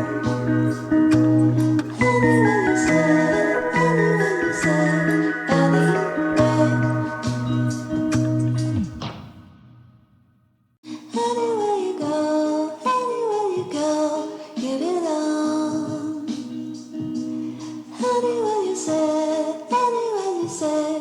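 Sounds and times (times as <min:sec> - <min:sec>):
song with sung vocals: 0:00.0 - 0:09.4, 0:10.8 - 0:21.0.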